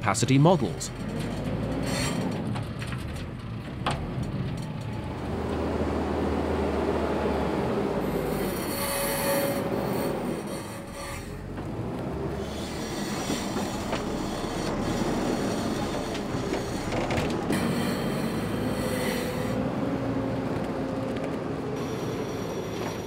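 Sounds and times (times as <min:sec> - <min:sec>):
grinding squealing machinery: 0:00.0 - 0:03.3, 0:04.2 - 0:23.0
engines running: 0:00.0 - 0:23.0.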